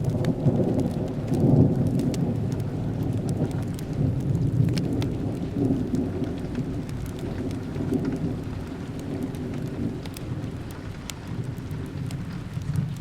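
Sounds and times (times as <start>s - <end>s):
steady rain: 0.0s - 13.0s
wood fire crackling: 0.0s - 13.0s.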